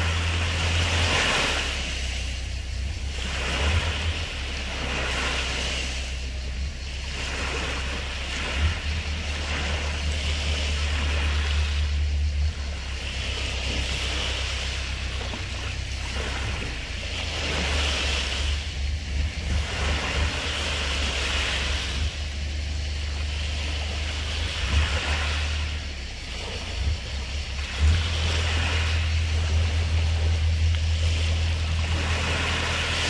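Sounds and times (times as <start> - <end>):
sea waves washing onto beach: 0.0 - 33.0
wind rumbling on microphone: 0.0 - 33.0.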